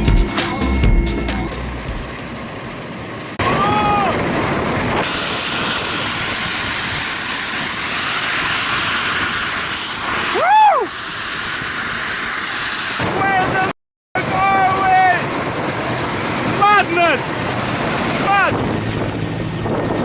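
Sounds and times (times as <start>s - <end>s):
helicopter in flight: 2.0s - 13.0s, 14.4s - 20.0s.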